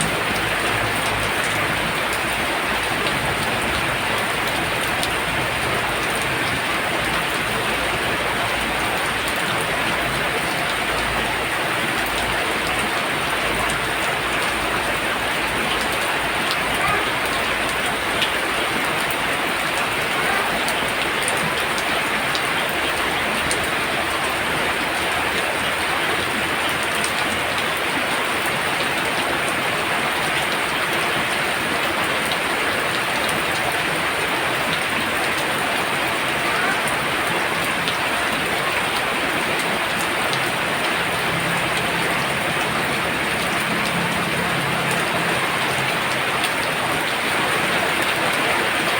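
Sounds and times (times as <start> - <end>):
heavy rain hissing: 0.0 - 48.9
raindrop ticks: 0.0 - 48.9.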